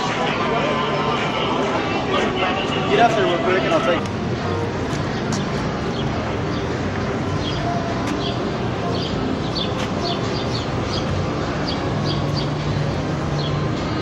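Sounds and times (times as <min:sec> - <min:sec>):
birds chirping: 0:00.7 - 0:14.0.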